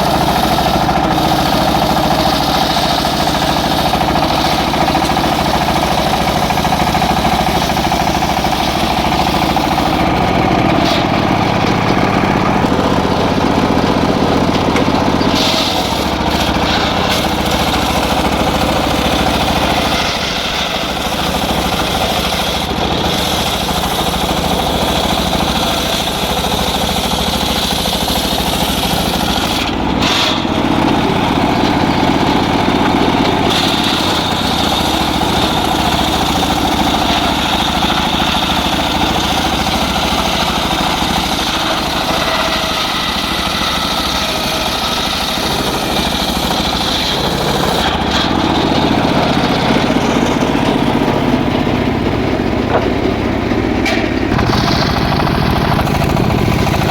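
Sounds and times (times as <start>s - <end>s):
engine-driven saw cutting wood: 0.0s - 56.9s.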